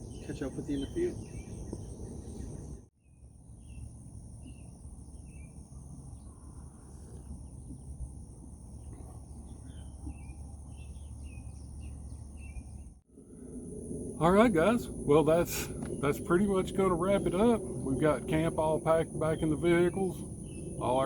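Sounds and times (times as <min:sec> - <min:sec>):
bird chirping: 0:00.0 - 0:07.9, 0:08.7 - 0:13.0, 0:14.2 - 0:21.0
low steady rumble: 0:00.0 - 0:21.0.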